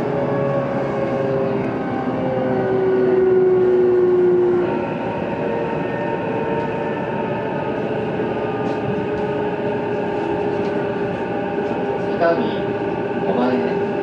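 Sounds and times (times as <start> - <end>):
rail noise: 0.0 - 14.0.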